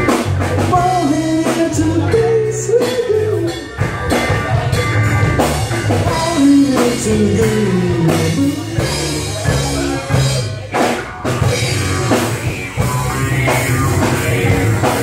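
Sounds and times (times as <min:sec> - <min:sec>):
drum kit: 0:00.0 - 0:15.0
electric bass: 0:00.0 - 0:15.0
electric guitar: 0:00.0 - 0:15.0.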